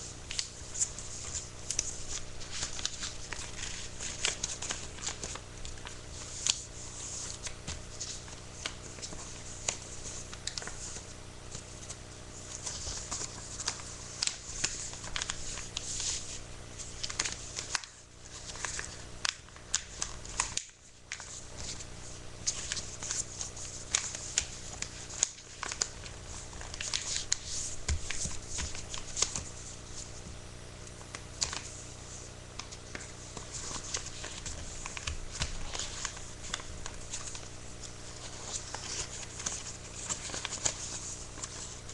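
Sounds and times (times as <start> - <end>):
paper rustling and crinkling: 0.0 - 30.4, 31.0 - 41.9
low electrical hum: 0.0 - 41.9.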